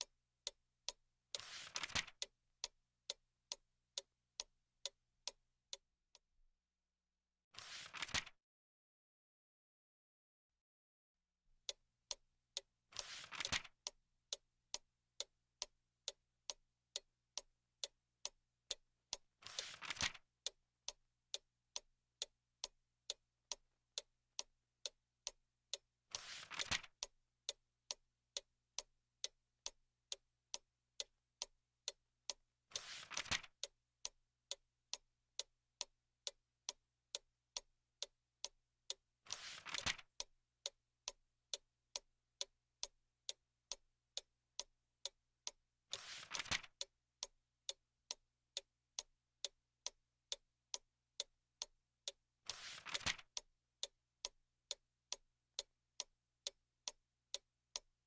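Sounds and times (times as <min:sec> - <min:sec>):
clock ticking: 0:00.0 - 0:06.3, 0:11.6 - 0:57.9.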